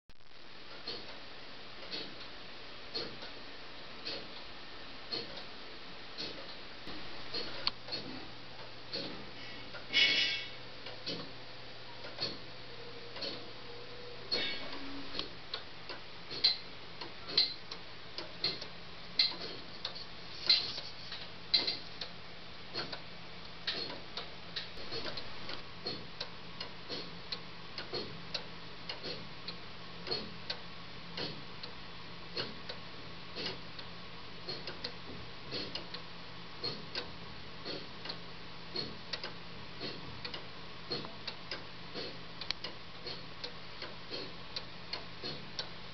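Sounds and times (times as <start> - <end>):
pendulum clocks ticking: 0.6 - 9.9, 10.6 - 45.9.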